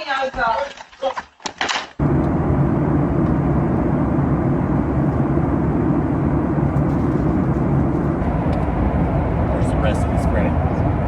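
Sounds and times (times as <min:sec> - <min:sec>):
aircraft engine drone: 0:02.0 - 0:11.0
airflow rushing in aircraft cabin: 0:02.0 - 0:11.0.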